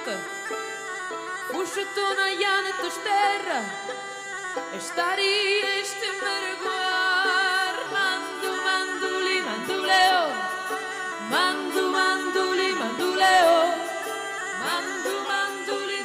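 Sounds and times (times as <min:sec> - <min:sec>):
steady musical accompaniment: 0:00.0 - 0:16.0.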